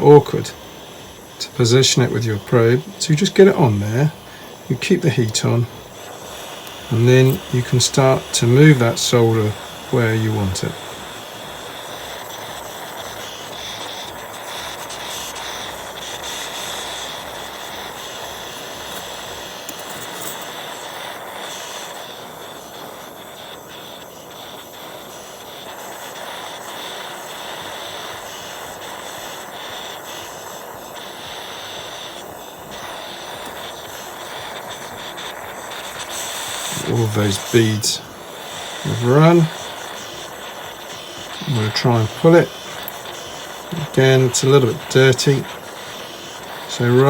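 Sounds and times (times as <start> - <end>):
soldering torch burning: 0.0 - 47.0.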